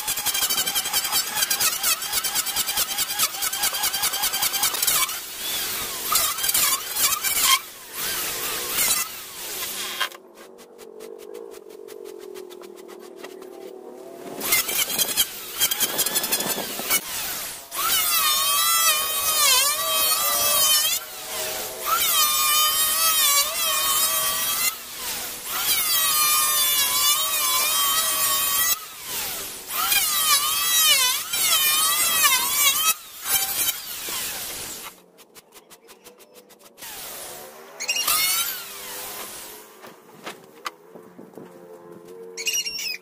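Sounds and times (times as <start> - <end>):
electric planer shaving wood: 0.0 - 10.2, 12.5 - 35.0, 36.8 - 40.0.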